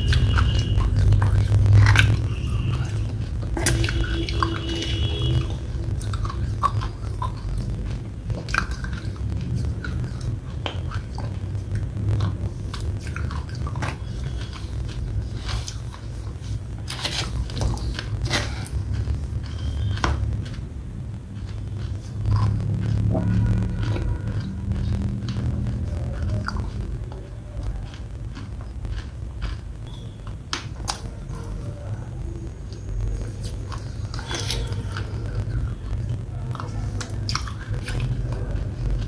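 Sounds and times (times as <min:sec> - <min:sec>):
sticky chewing and lip smacking: 0:00.0 - 0:39.0.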